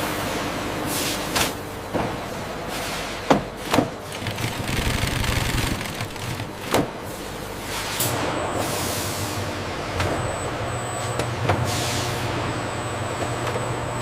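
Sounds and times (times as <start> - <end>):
factory machinery running: 1.9 - 14.0.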